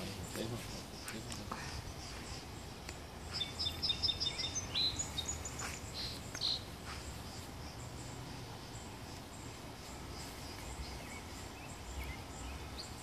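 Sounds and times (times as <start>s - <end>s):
faint low outdoor rumble: 0.0s - 13.0s
songbird chirping: 0.0s - 13.0s.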